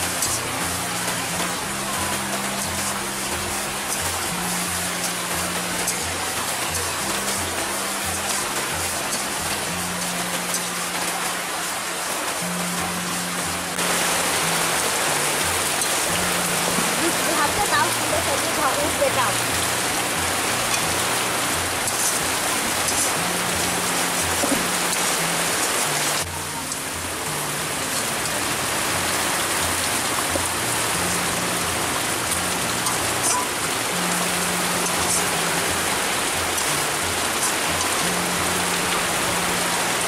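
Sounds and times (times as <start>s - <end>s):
music with bass melody: 0.0s - 40.0s
rain falling on roofs: 0.0s - 40.0s.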